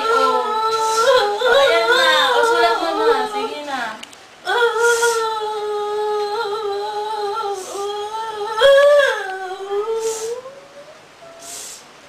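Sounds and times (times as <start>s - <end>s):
woman singing wordless notes: 0.0s - 11.7s.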